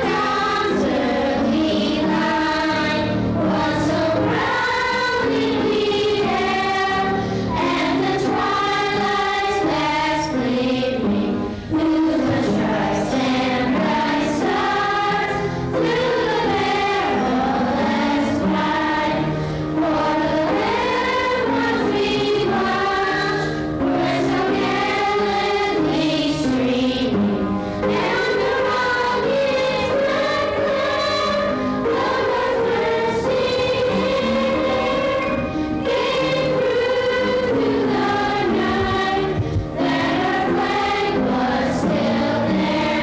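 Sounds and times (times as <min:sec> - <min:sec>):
children's choir singing: 0:00.0 - 0:43.0.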